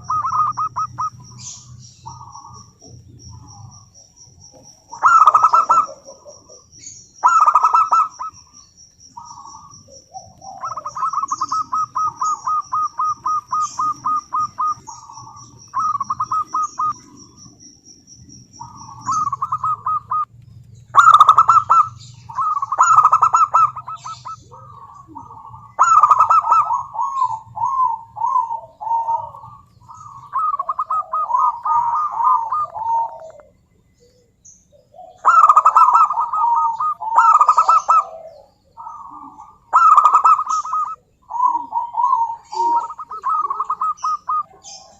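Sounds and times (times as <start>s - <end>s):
dove cooing and trilling: 0.0s - 44.9s
high pulsing chirp: 0.0s - 44.9s.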